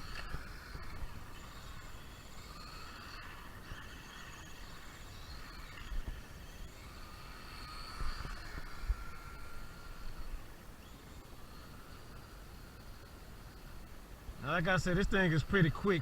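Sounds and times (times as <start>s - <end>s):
electric whine of rc truck: 0.0s - 16.0s.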